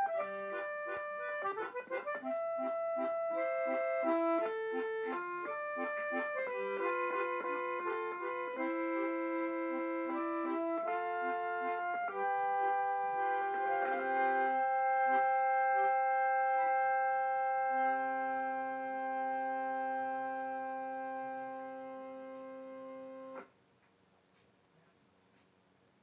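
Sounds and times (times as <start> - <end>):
accordion music: 0.0 - 23.5.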